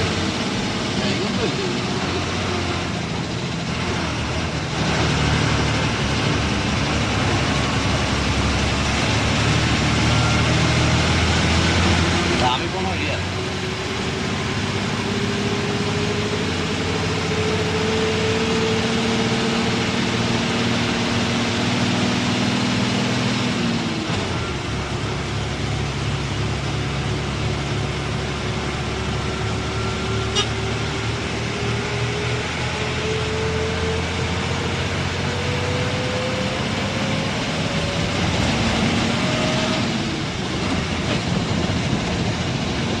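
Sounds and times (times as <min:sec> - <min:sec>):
bus engine running: 0:00.0 - 0:43.0
rising whine: 0:00.0 - 0:43.0
road noise: 0:00.0 - 0:43.0.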